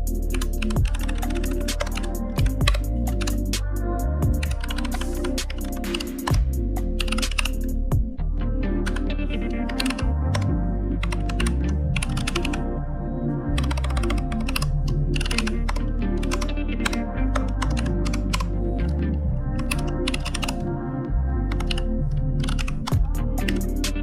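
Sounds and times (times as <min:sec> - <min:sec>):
typing on computer keyboard: 0:00.0 - 0:07.8, 0:08.9 - 0:12.6, 0:13.6 - 0:18.5, 0:19.6 - 0:20.6, 0:21.5 - 0:24.0
background music with bass: 0:00.0 - 0:24.0.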